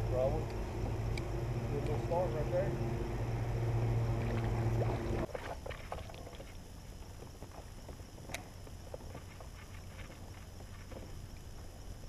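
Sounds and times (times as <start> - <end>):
low motor hum: 0.0 - 12.0
quiet water sounds: 0.0 - 12.0.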